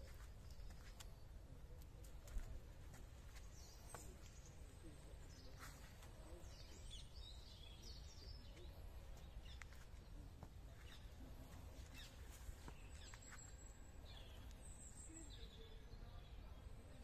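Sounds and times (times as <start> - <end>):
faint birdsong chirping: 0.0 - 17.0.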